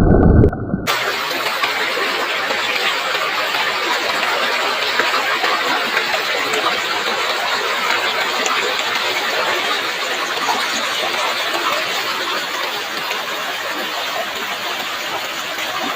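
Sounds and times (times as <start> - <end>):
river water flowing over stones: 0.8 - 15.9.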